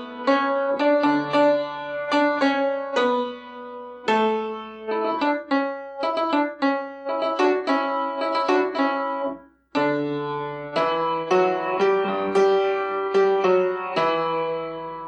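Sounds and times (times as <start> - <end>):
piano chords and notes: 0.0 - 15.0.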